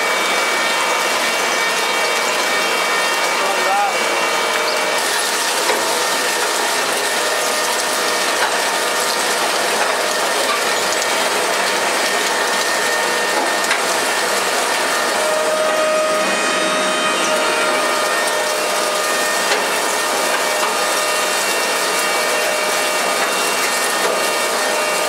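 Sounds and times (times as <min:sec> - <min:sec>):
industrial shredder clattering: 0:00.0 - 0:25.0.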